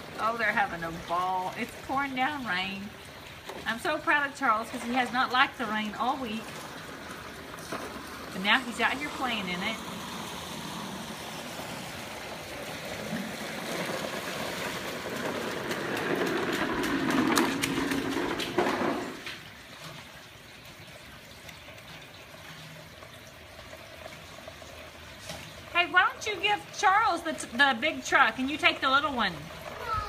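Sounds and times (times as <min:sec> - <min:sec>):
heavy rain pouring: 0:00.0 - 0:19.6, 0:23.4 - 0:30.0
rain drops splashing: 0:00.0 - 0:30.0.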